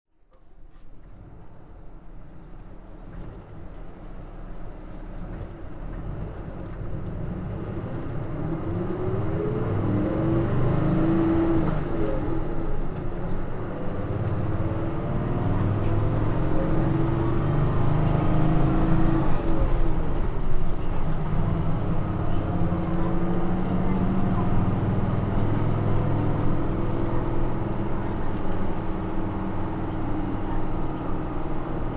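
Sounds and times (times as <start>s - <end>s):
bus diesel engine accelerating: 0.4s - 31.9s.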